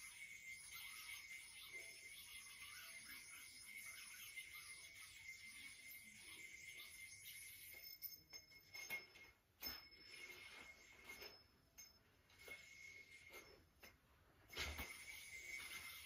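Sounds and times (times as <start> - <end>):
yo-yo spinning whir: 0.0 - 9.0, 9.7 - 16.0.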